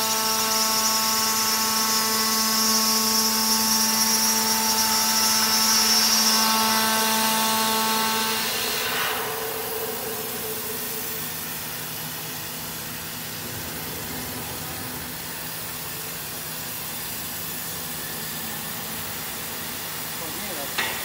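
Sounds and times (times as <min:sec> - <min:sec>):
pitched machine whine: 0:00.0 - 0:21.0
machine hiss: 0:03.9 - 0:21.0.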